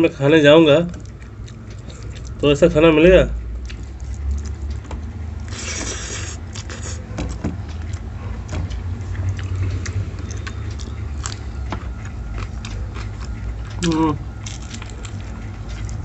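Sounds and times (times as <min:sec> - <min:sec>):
low hum: 0:00.0 - 0:16.0
person chewing: 0:01.0 - 0:02.4, 0:03.6 - 0:16.0.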